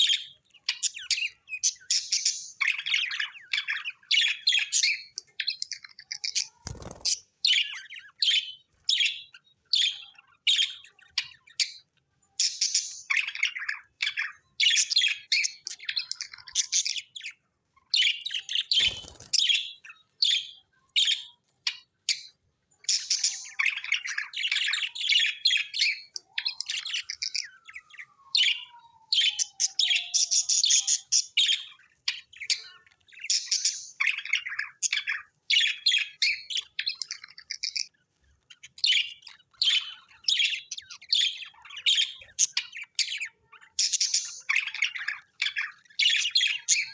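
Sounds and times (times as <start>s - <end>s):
budgerigars chirping: 0.0s - 22.3s, 29.3s - 46.9s.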